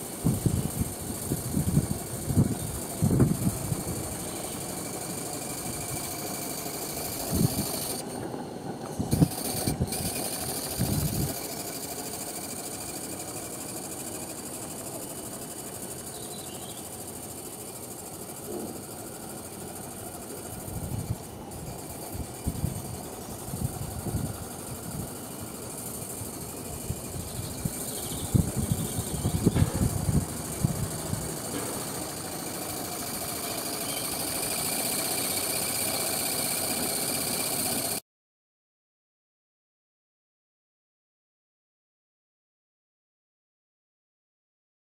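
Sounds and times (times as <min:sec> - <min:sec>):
steam engine hissing: 0:00.0 - 0:38.0.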